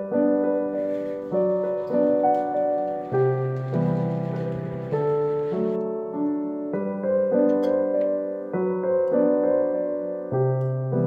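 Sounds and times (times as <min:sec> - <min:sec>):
slow gentle piano chords: 0:00.0 - 0:11.0.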